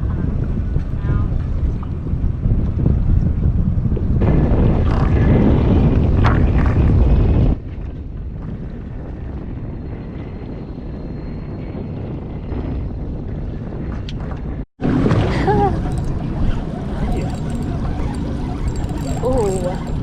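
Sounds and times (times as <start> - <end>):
rush of wind and water: 0.0 - 20.0
wind buffeting microphone: 0.0 - 20.0.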